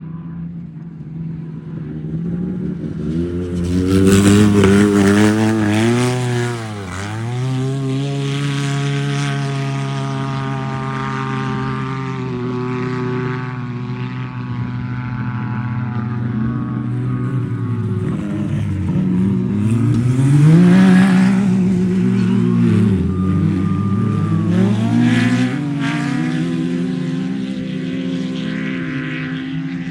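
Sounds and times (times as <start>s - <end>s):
off-road vehicle engine revving: 1.8s - 29.9s.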